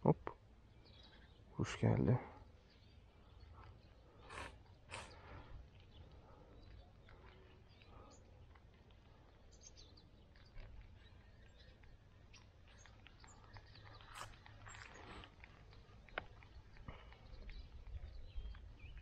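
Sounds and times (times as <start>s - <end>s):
faint birds chirping: 0.0s - 19.0s
low wind rumble: 2.4s - 19.0s.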